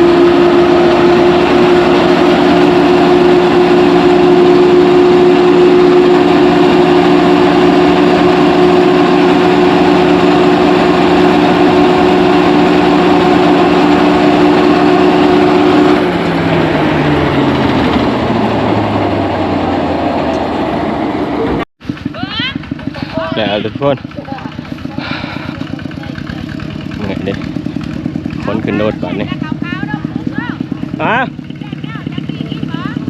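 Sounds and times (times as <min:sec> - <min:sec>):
engine running at high speed: 0:00.0 - 0:33.0.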